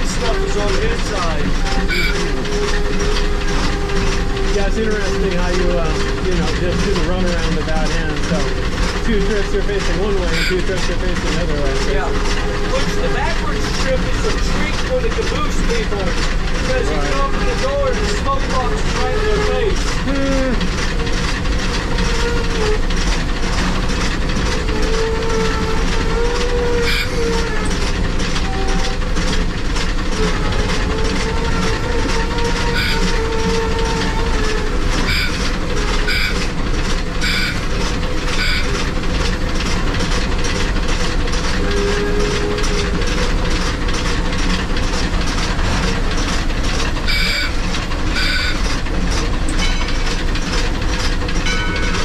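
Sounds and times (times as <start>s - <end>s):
wavering squeals: 0.0s - 39.1s, 39.8s - 52.0s
locomotive running gear clatter: 0.0s - 52.0s
rail noise: 0.0s - 52.0s.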